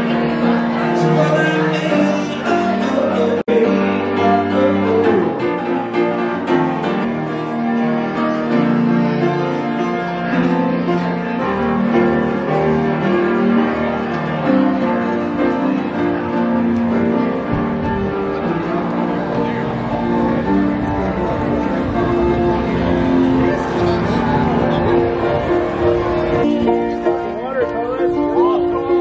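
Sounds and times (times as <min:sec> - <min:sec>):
instrumental piano music: 0:00.0 - 0:29.0.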